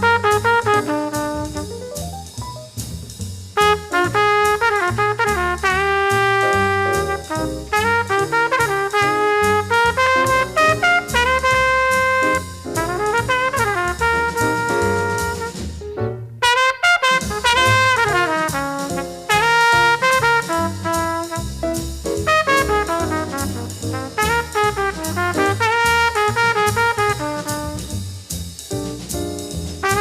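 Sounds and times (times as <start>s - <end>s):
horn playing swinging melody: 0.0s - 2.8s, 3.6s - 28.1s, 28.7s - 30.0s
drums: 0.0s - 16.1s, 17.0s - 30.0s
walking bass: 0.0s - 16.4s, 17.3s - 30.0s.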